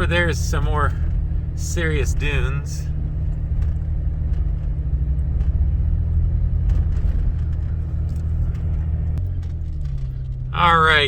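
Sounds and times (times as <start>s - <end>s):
engine and drivetrain rumble: 0.0s - 11.0s.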